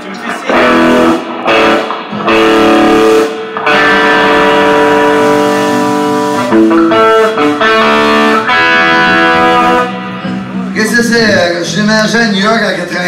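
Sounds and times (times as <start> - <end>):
electric guitars playing chords: 0.0 - 13.0.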